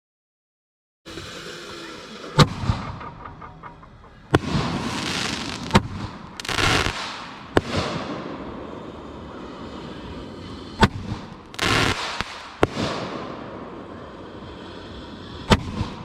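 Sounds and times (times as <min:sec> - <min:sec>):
firework hissing and crackling: 0:01.1 - 0:16.0
firework mortar bangs: 0:02.4 - 0:16.0.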